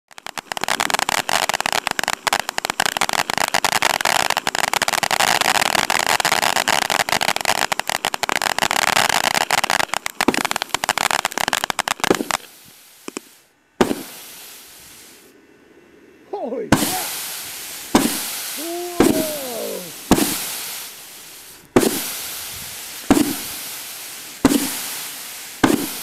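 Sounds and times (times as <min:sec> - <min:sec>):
firework pops: 0:00.1 - 0:15.2, 0:16.7 - 0:26.0
firework fountain crackling: 0:00.1 - 0:15.4, 0:16.1 - 0:26.0.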